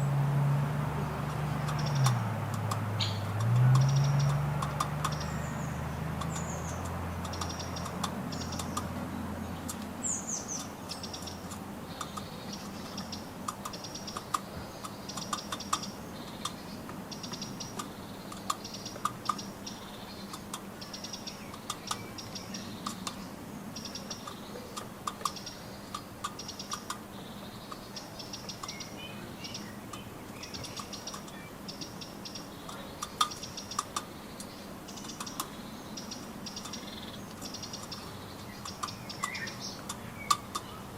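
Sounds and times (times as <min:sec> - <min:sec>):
bird pecking at nuts: 0:01.0 - 0:40.9.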